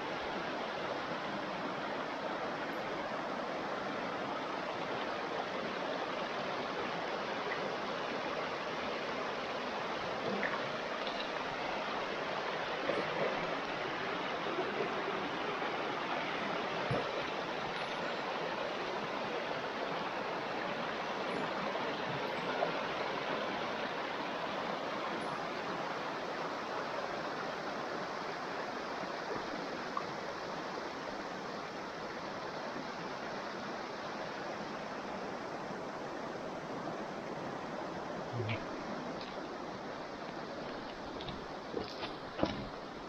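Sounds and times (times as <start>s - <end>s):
stream running over stones: 0.0s - 43.0s.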